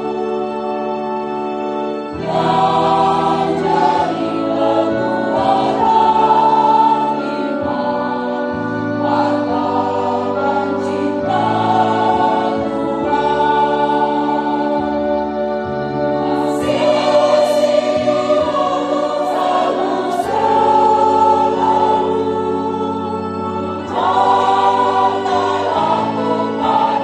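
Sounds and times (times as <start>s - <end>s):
church choir singing a hymn: 0.0s - 27.0s.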